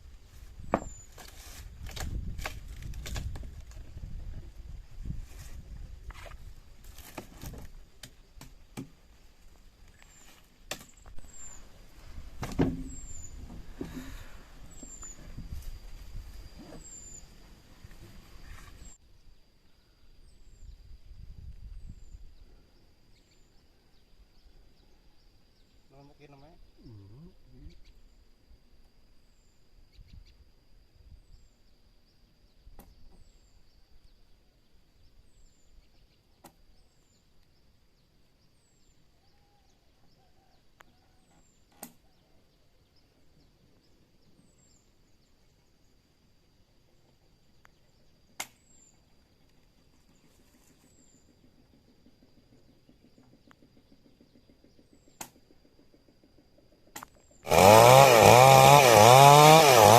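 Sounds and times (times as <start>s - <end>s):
bird chirp: 0.6s - 1.2s, 7.8s - 28.4s, 29.0s - 57.5s.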